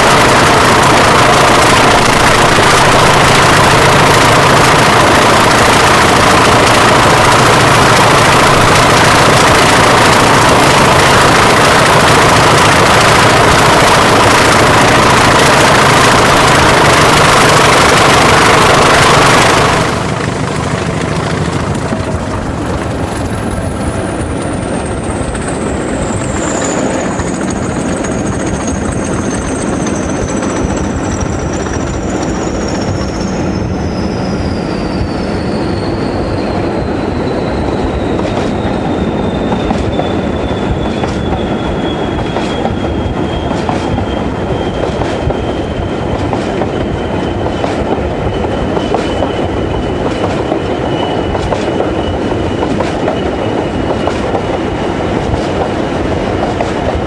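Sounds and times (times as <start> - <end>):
diesel locomotive engines running: 0.0 - 57.0
train running: 0.0 - 57.0.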